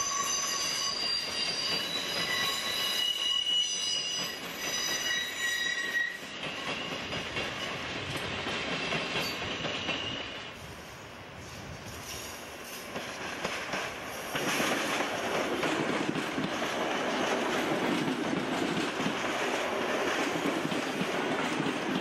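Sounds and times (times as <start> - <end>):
train wheels rumbling and clattering: 0.0 - 10.8, 11.4 - 22.0.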